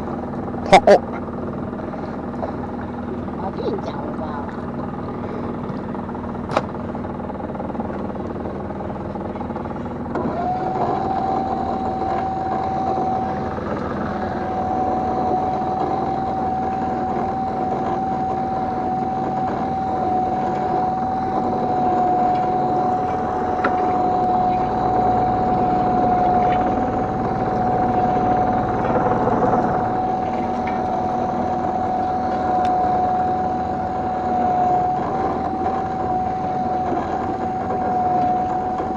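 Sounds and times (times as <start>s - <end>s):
boat engine running: 0.0s - 38.9s
steady whine: 0.0s - 38.9s.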